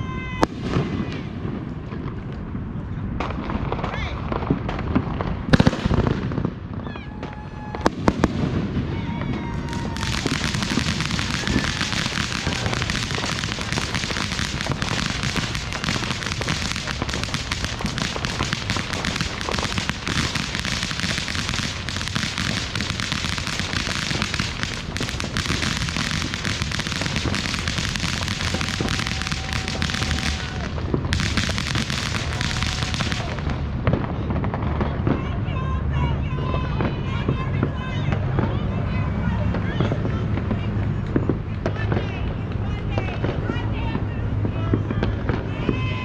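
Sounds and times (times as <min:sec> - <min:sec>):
fireworks crackling and banging: 0:00.1 - 0:35.6, 0:39.4 - 0:46.0.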